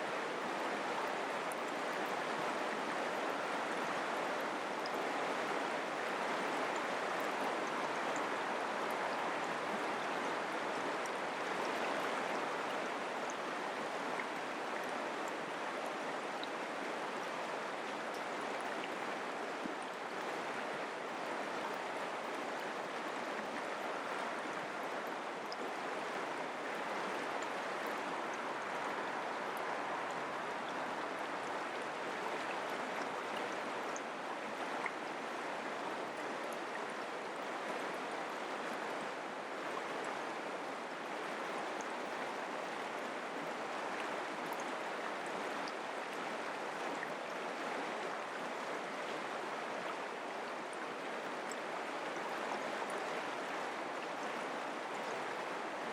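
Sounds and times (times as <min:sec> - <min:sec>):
creek flowing over rocks: 0:00.0 - 0:55.9.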